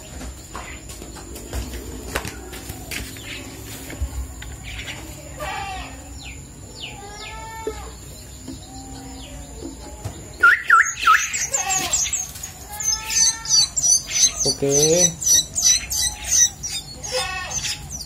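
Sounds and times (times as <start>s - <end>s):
bird chicks chirping: 0.0s - 18.0s.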